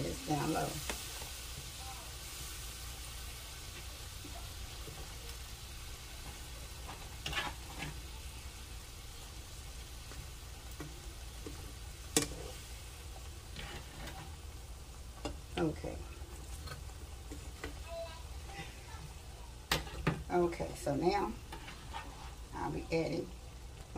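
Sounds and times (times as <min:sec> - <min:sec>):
gravy sizzling in a skillet: 0:00.0 - 0:23.9.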